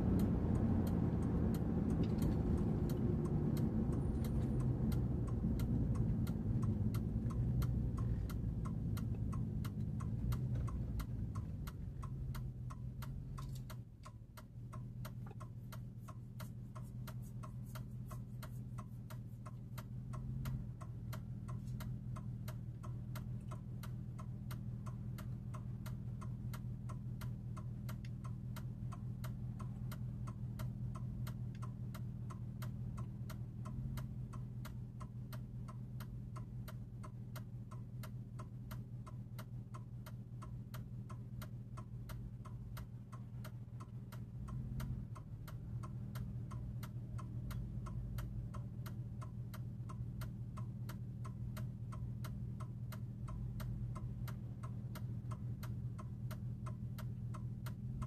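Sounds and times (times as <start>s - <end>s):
truck engine humming: 0.0s - 58.0s
turn signal clicking: 0.0s - 58.0s.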